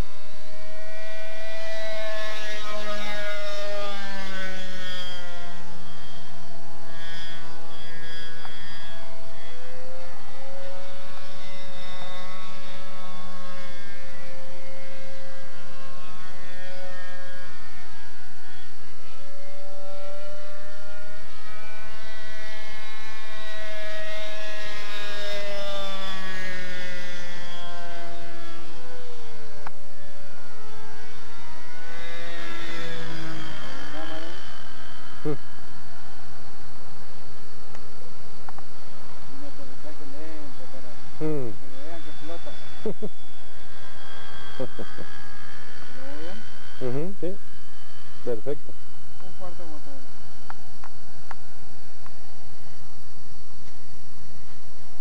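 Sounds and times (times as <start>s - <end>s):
model airplane engine buzzing: 0.0s - 55.0s.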